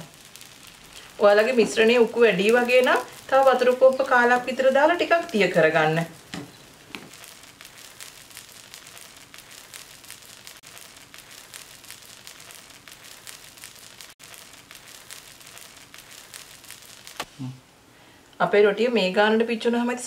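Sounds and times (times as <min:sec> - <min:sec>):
batter sizzling in a pan: 0:00.0 - 0:17.4.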